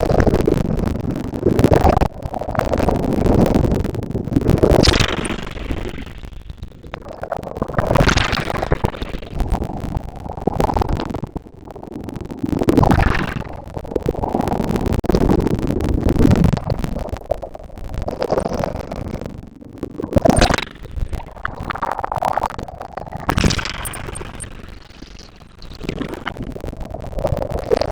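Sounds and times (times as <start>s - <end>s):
wind rumble on microphone: 0.0s - 27.9s.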